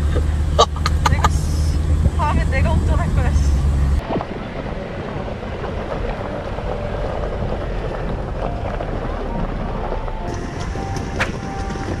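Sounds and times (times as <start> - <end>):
vehicle rumble: 0.0 - 12.0
wind buffeting microphone: 0.8 - 12.0.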